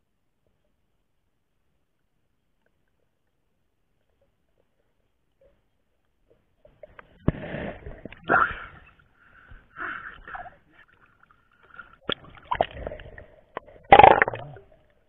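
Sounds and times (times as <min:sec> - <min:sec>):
water splashing and sloshing: 0:02.6 - 0:15.0.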